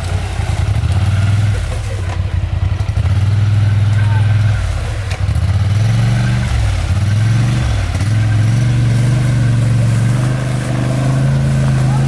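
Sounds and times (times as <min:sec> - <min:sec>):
quad engine under load: 0:00.0 - 0:12.0.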